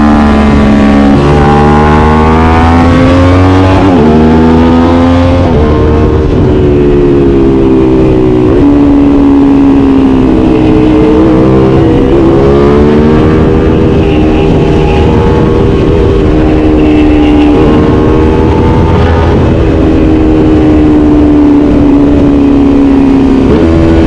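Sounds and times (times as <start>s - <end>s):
gear changes: 0.0s - 24.0s
motorcycle engine revving: 0.0s - 24.0s.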